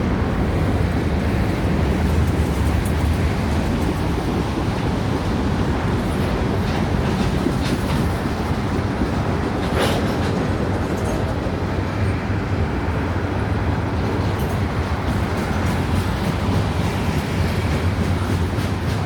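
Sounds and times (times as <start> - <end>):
freight train wheels rumbling on rails: 0.0 - 19.0
wheels clicking over rail joints: 0.6 - 12.2, 13.8 - 19.0.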